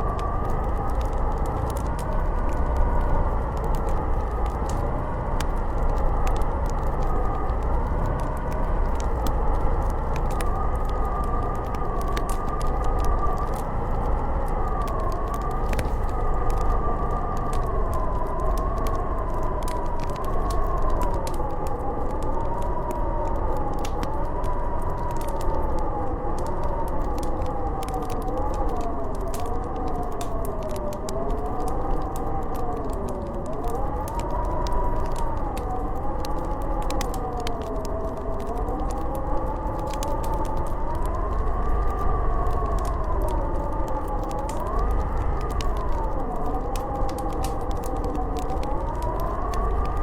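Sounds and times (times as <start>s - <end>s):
howling blizzard wind: 0.0s - 50.0s
wood fire crackling: 0.0s - 50.0s.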